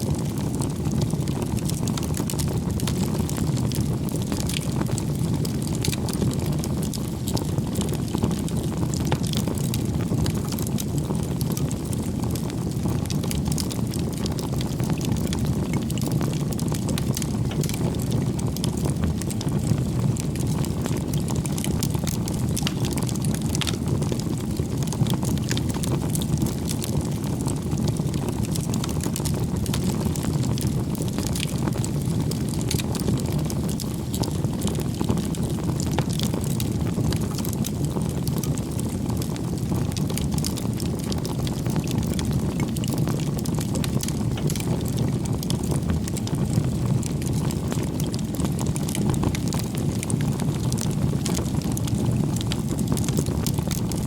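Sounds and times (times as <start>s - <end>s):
campfire crackling: 0.0s - 54.0s.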